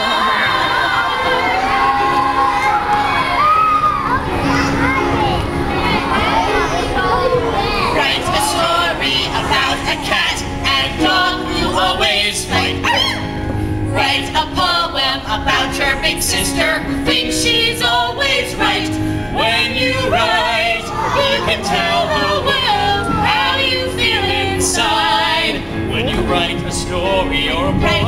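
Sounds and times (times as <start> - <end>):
people singing together: 0.0 - 3.1, 5.8 - 28.0
electric keyboard: 0.0 - 28.0.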